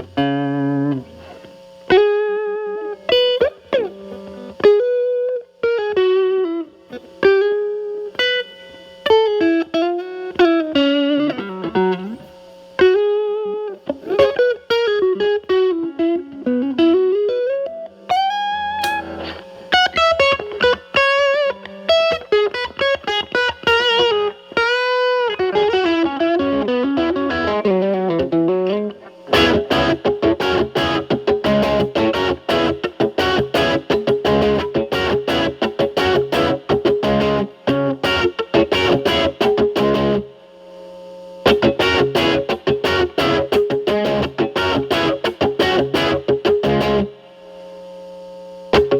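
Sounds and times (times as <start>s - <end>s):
distorted electric guitar chords: 0.0s - 48.9s
electric guitar lead lines: 0.0s - 48.9s.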